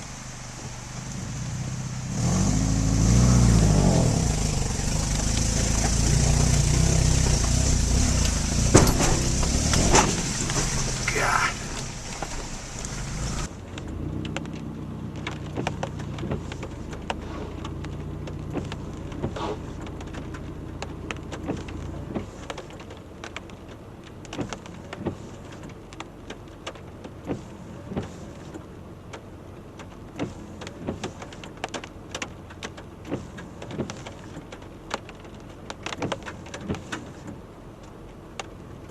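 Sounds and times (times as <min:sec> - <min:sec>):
car engine humming: 0:00.0 - 0:38.9
car knocking and rattling: 0:03.2 - 0:38.9.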